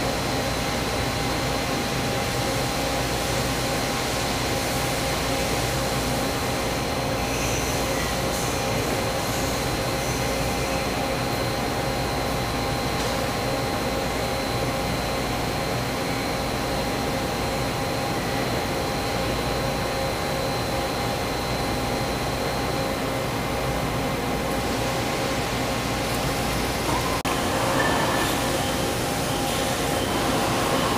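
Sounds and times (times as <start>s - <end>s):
steady machine whine: 0.0s - 30.9s.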